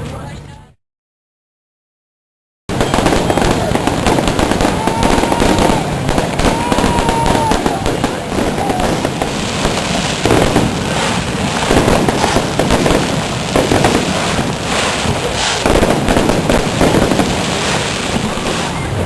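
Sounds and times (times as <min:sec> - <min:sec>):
fireworks crackling: 0:02.7 - 0:19.0.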